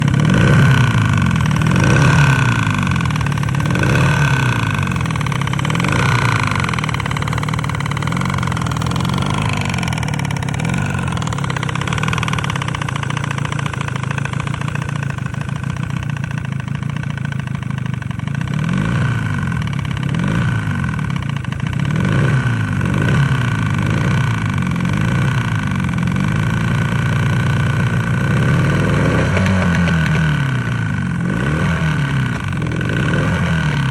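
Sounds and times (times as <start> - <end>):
outboard motor revving and knocking: 0.0 - 33.9.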